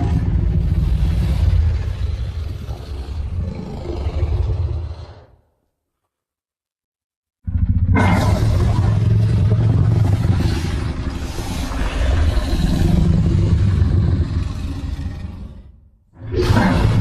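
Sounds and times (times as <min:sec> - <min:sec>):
low rumbling monster roar: 0:00.0 - 0:05.5, 0:07.5 - 0:17.0.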